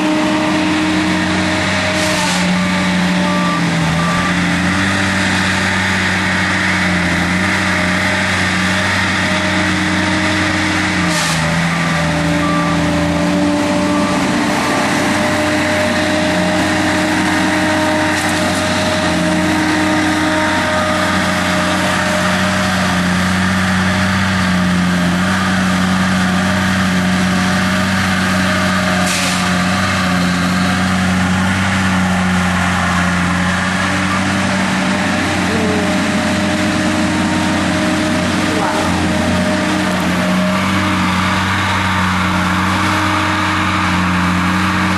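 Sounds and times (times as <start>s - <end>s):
heavy machinery engine running: 0.0s - 44.9s.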